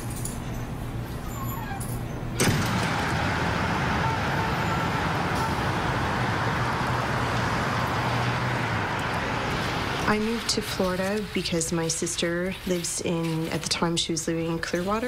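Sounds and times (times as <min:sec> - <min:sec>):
road traffic passing: 0:02.0 - 0:15.0.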